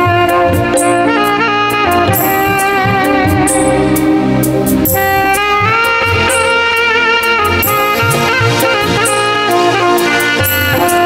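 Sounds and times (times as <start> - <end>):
drum beat and bass: 0.0 - 11.0
song with wavering lead melody: 0.0 - 11.0.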